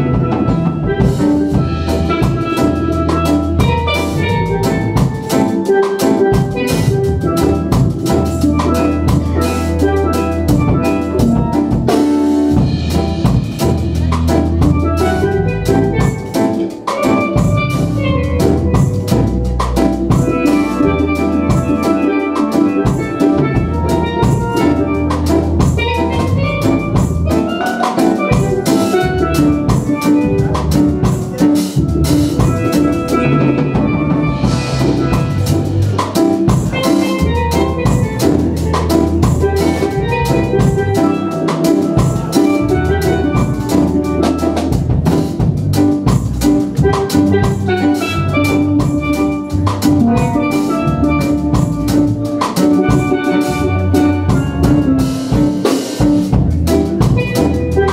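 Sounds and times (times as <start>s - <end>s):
drum kit: 0.0s - 57.9s
electronic keyboard: 0.0s - 57.9s
steel pans playing melody: 0.0s - 57.9s.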